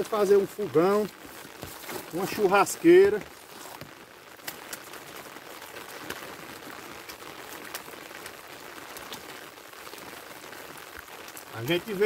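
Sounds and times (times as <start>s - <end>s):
light rain falling: 0.0s - 12.0s
rain drop ticks: 0.0s - 12.0s.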